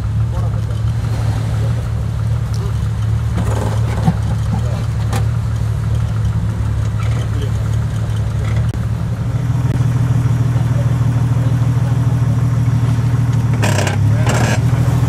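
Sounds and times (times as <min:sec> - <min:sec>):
car engine running close by: 0:00.0 - 0:15.0
engines running at low revs: 0:00.0 - 0:15.0.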